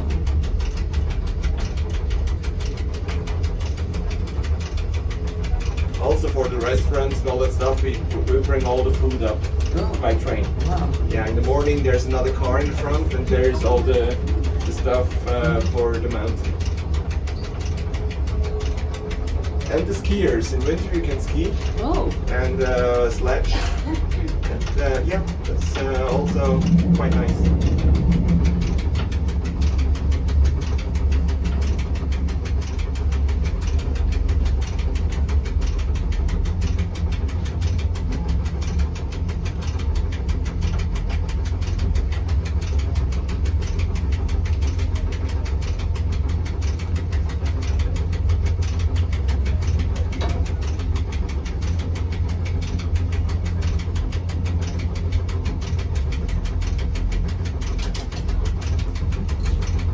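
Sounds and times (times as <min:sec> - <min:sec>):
train carriage rumble and hum: 0:00.0 - 0:59.9.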